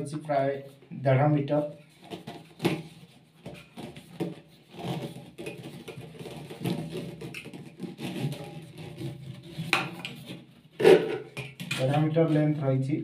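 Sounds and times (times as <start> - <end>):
plastic hose rustling: 1.7 - 12.7.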